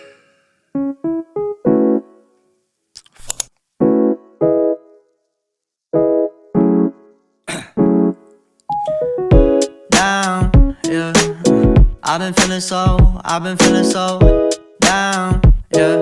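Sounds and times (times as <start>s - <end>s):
keyboard chords: 0.0s - 2.6s, 3.8s - 5.1s, 5.9s - 16.0s.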